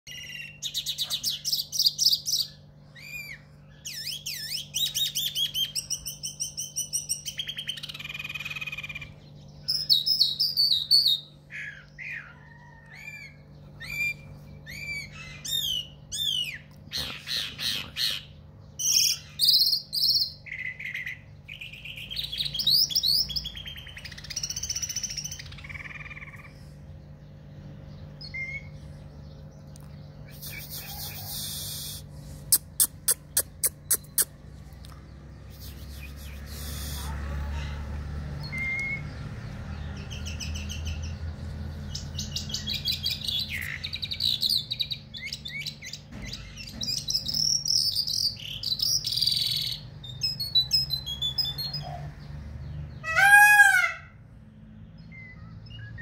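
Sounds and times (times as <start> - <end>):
larks singing: 0.0 - 54.0
faint steady hum: 0.1 - 50.1.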